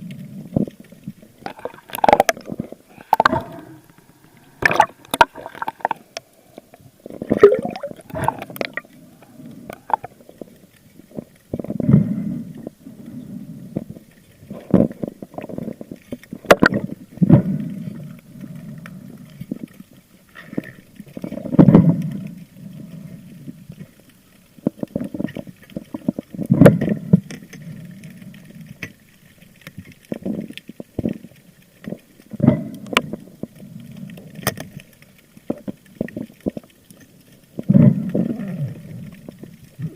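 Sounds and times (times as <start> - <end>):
water swishing and gurgling: 0.0 - 39.9.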